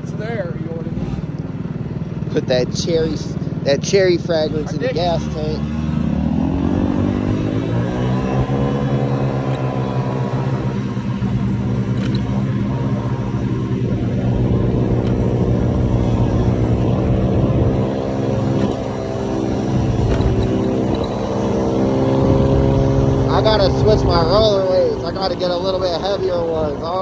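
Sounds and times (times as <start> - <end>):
motor scooter engine: 0.0 - 27.0.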